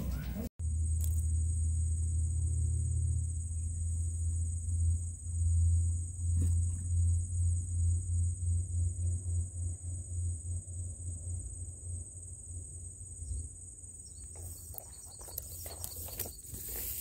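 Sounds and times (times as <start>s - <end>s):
loud low hum: 0.0s - 13.6s
crickets chirping: 0.6s - 17.0s.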